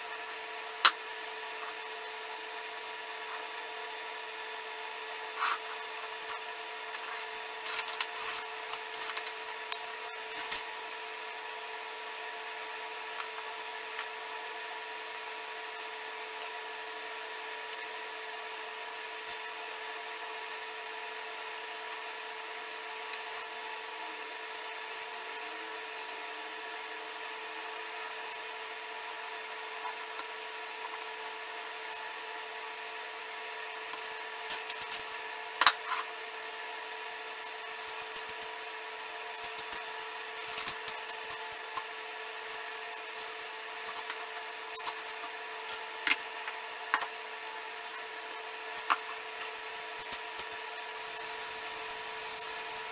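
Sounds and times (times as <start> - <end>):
steady hum: 0.0 - 52.9.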